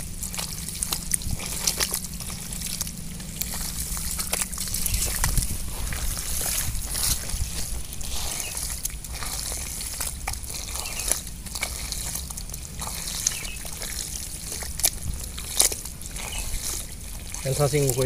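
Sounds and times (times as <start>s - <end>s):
hands squelching through mud: 0.0s - 18.0s
water sloshing: 0.0s - 18.0s
sharp wet slaps: 0.1s - 18.0s.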